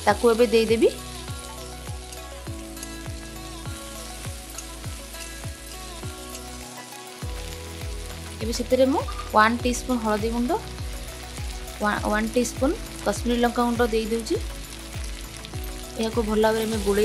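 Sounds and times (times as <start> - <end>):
background music with steady beat: 0.0 - 17.0
onions and tomatoes sizzling in oil: 0.0 - 17.0.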